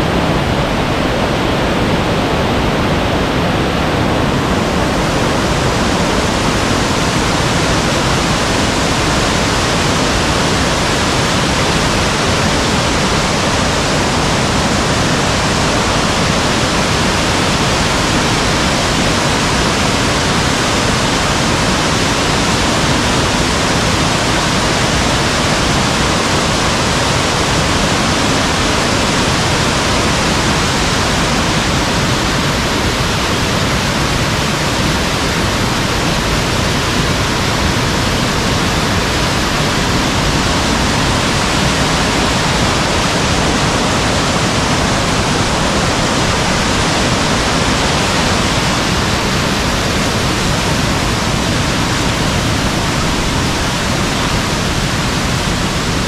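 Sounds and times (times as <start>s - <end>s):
heavy rain and rushing water: 0.0s - 56.0s.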